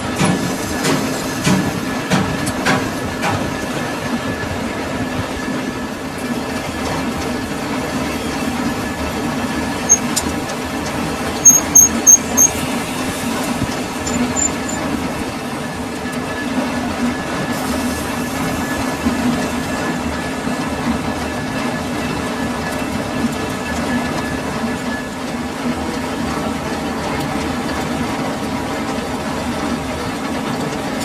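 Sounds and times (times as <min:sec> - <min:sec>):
metal lathe running: 0:00.0 - 0:31.0.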